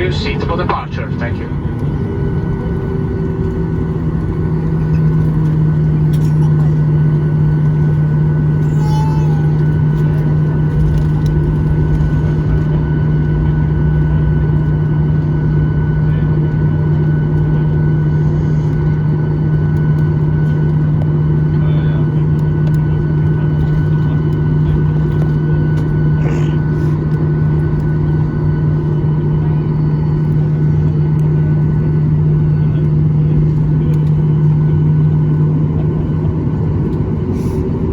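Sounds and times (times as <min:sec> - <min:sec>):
aircraft engine hum: 0:00.0 - 0:37.9.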